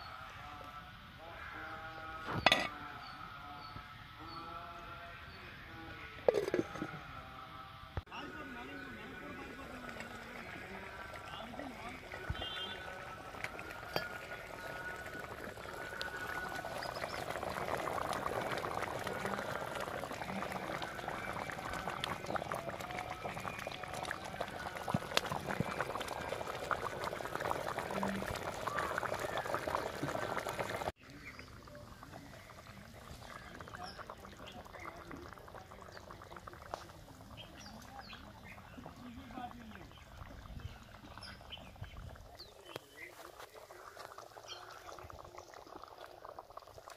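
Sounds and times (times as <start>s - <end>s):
curry bubbling and popping: 8.0s - 46.9s.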